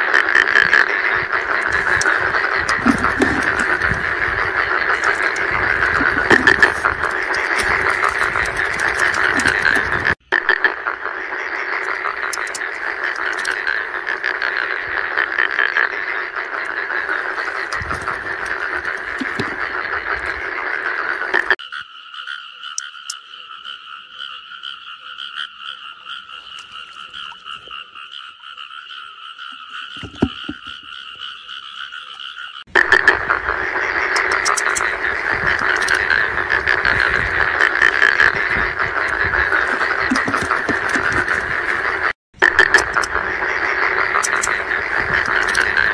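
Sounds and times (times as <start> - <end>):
frogs croaking: 0.0 - 45.9
high trilling frog chorus: 0.0 - 45.9.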